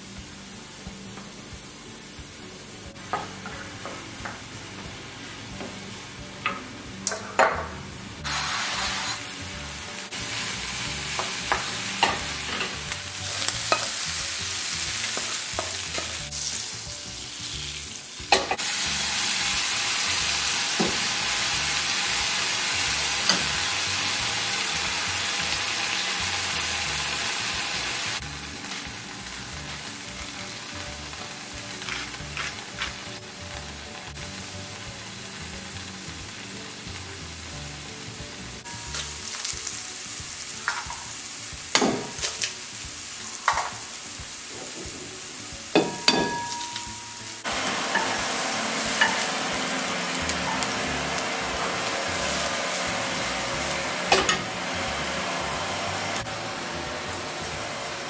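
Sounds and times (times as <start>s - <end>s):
food sizzling in skillets: 0.0s - 58.0s.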